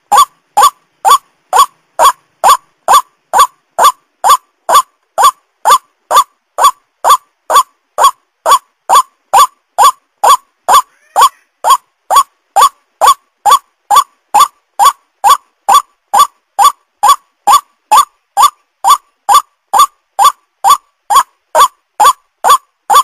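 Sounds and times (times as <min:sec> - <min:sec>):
waterhen calling: 0:00.1 - 0:23.0.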